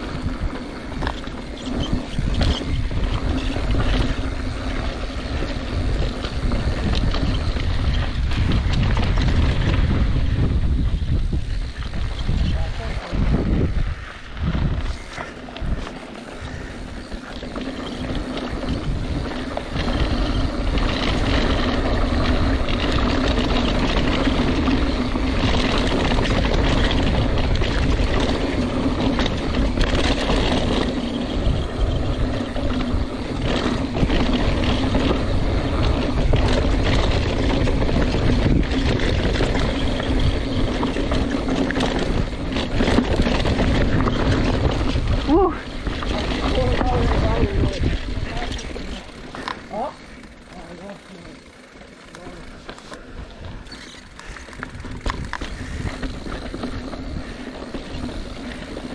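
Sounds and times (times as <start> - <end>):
wind on microphone: 0.0 - 49.2, 53.0 - 58.9
bike knocking and rattling: 0.0 - 58.9
bike tyres rolling over dirt: 0.0 - 58.9.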